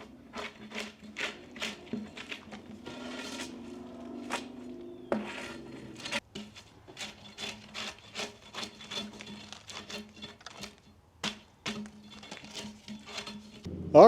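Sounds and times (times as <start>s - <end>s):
repeated scraping strokes: 0.0s - 14.0s.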